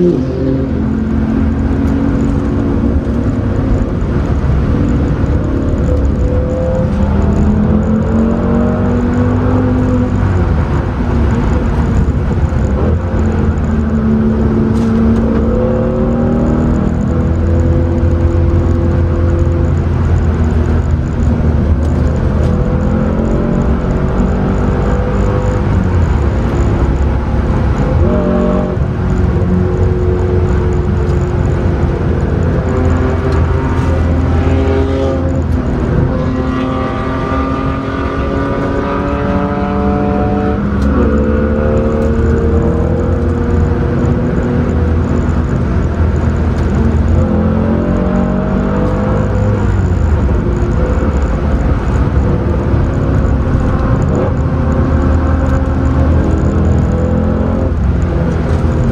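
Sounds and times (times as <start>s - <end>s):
car engine revving: 0.0s - 58.9s
tyre and wind noise: 0.0s - 58.9s.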